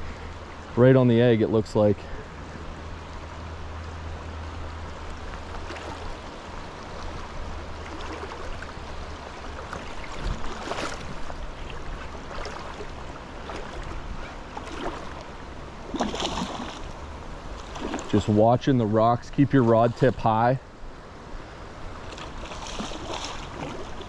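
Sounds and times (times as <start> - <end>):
creek water over rocks: 0.0 - 24.0.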